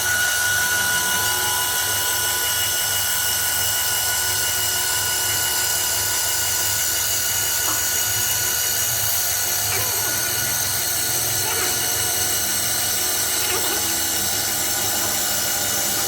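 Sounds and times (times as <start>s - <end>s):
wood lathe whining: 0.0s - 16.0s.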